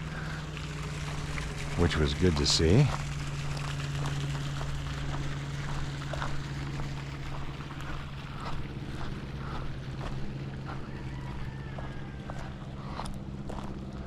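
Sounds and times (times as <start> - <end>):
motor running: 0.0 - 14.0.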